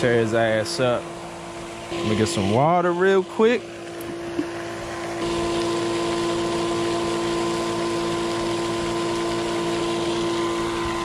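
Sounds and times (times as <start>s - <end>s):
aerator pump humming: 0.0s - 11.0s.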